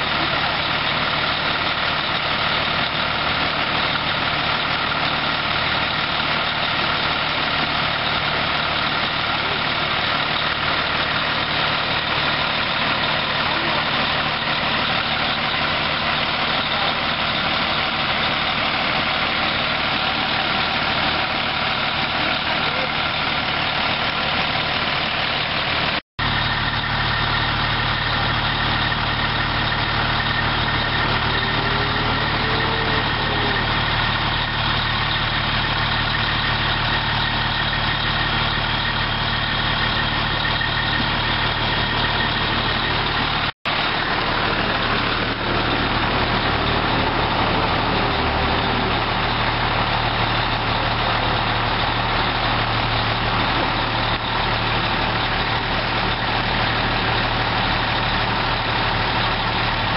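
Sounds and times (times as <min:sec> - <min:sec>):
fire truck engine running: 0:00.0 - 0:59.9.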